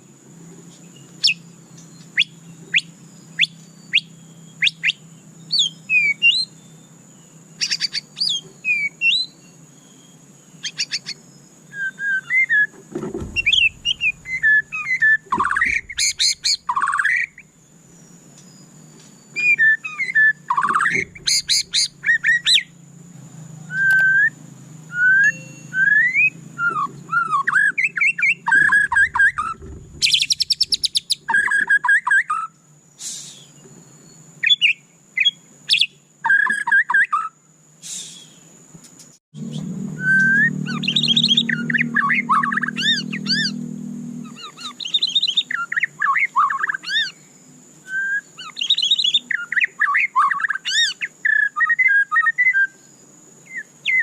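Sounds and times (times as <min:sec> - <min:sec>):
bird singing whistles and trills: 0:00.8 - 0:22.8, 0:23.6 - 0:38.6, 0:39.4 - 0:54.0.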